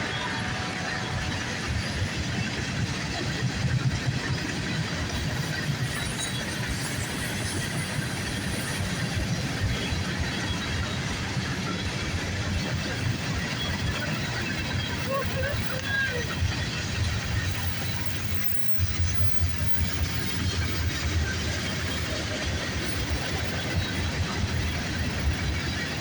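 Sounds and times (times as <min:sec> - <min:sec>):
freight train wheels on rails: 0:00.0 - 0:26.0.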